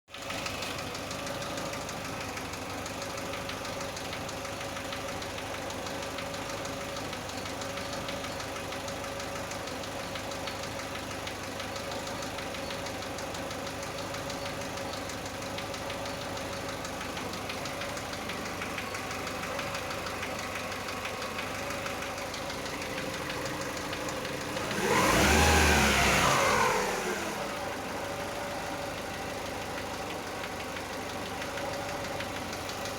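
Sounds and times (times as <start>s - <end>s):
car engine idling and revving: 0.1s - 32.9s
engine knocking: 0.1s - 32.9s.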